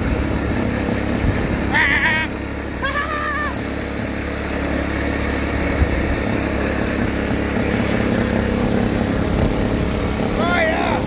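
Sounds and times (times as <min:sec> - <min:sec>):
tractor engine at full throttle: 0:00.0 - 0:11.0.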